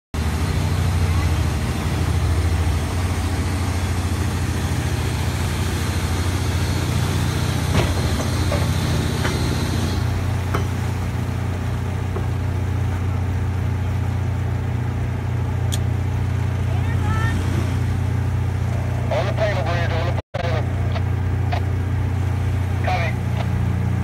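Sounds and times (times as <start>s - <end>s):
low boat engine drone: 0.1s - 24.0s.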